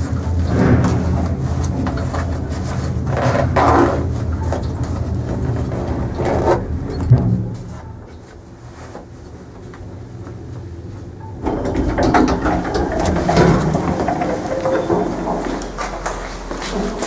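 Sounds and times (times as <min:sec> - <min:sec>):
lift car humming: 0:00.0 - 0:17.0
sliding doors rattling open: 0:00.0 - 0:17.0.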